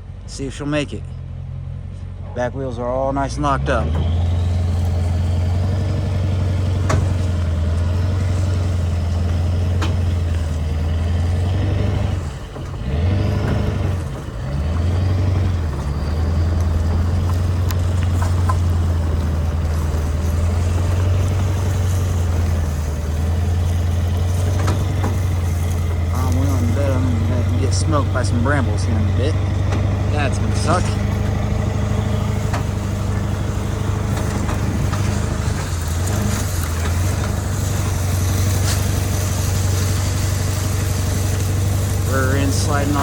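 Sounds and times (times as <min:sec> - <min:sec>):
truck engine under load: 0:00.0 - 0:43.0.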